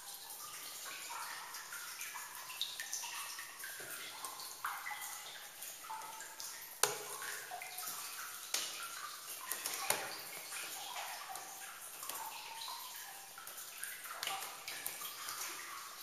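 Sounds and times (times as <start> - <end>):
water dripping into pool: 0.0 - 16.0.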